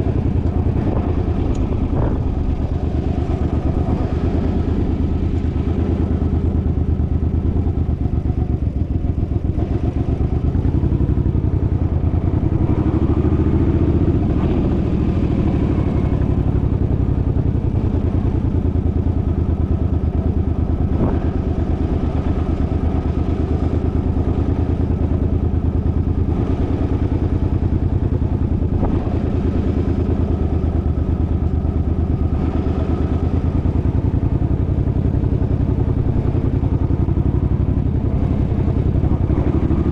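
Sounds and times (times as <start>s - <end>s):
engine running with rapid pulsing: 0.0s - 39.9s.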